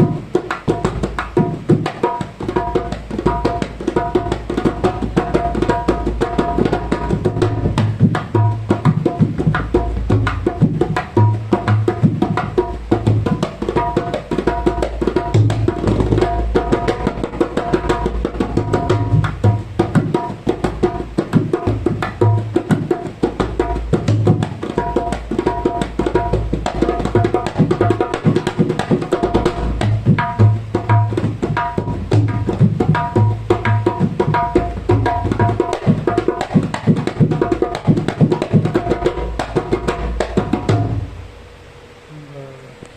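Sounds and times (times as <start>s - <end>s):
dholak drum strokes: 0.0s - 42.8s.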